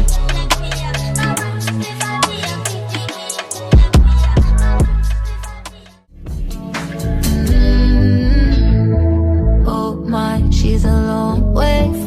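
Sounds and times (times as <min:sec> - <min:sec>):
person singing: 0:00.0 - 0:12.0
r and b music with heavy bass: 0:00.0 - 0:12.0.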